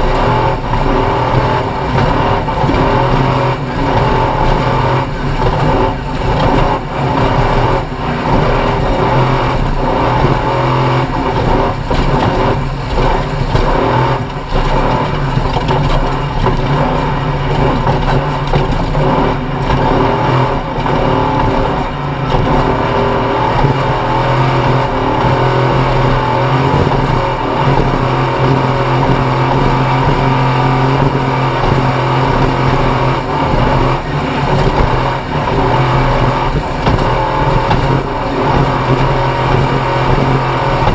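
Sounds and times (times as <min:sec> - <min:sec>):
race vehicle engine running hard: 0:00.0 - 0:40.9.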